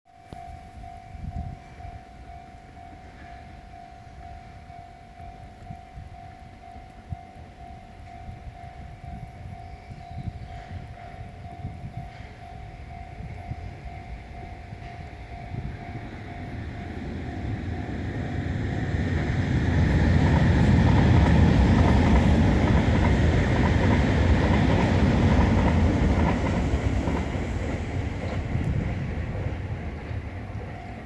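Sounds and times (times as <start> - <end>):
crossing warning alarm tone: 0.2 - 31.0
train passing: 0.3 - 31.0.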